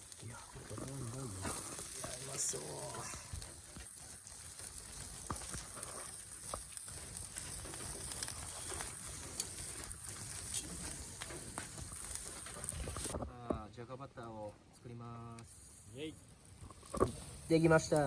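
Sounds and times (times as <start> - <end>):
campfire crackling: 0.0 - 18.0
fire low hiss: 0.0 - 18.0.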